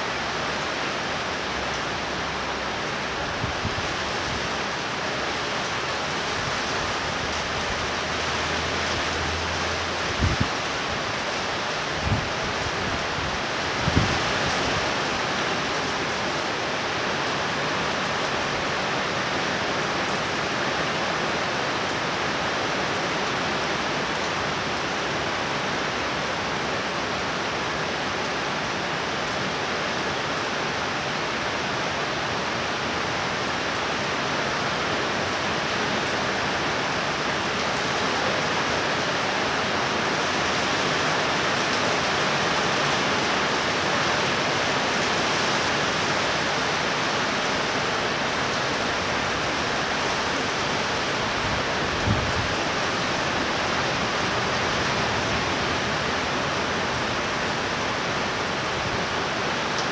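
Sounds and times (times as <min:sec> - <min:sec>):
heavy rain on roofs and street: 0:00.0 - 0:59.9.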